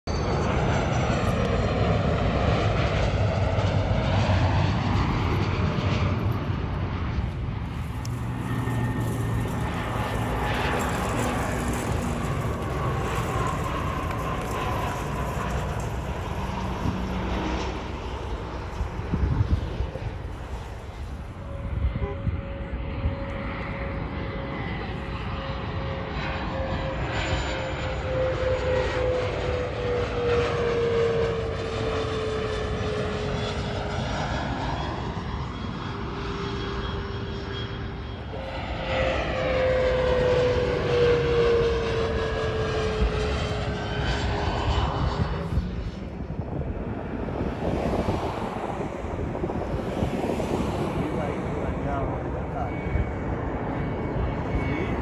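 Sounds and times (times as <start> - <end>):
jet engine whine: 0.0 - 55.0
jet rushing noise: 1.1 - 33.3, 34.4 - 55.0.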